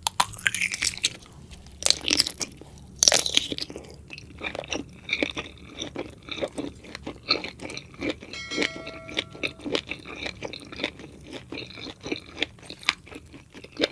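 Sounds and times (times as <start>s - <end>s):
food being chewed: 0.0s - 13.9s.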